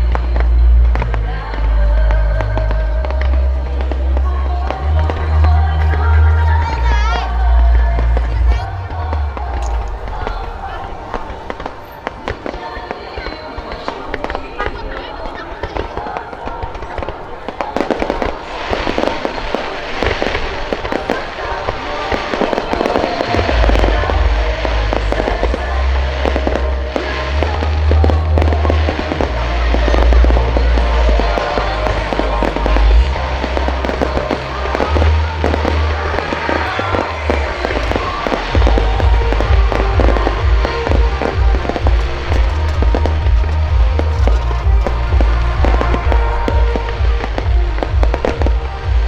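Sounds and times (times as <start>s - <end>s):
music with heavy bass line: 0.0s - 11.6s, 18.5s - 49.0s
fireworks bangs and crackling: 7.0s - 49.0s.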